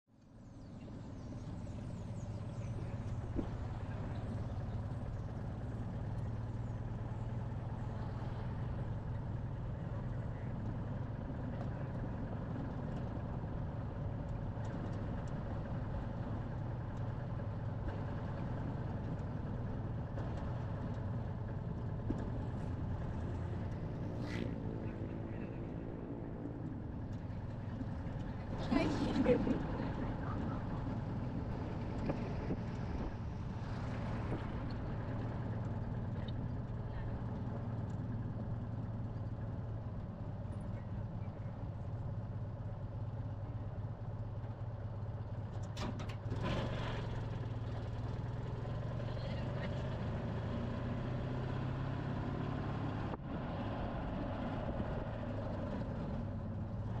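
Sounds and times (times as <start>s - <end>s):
road noise: 0.1s - 57.0s
car engine drone: 0.2s - 57.0s.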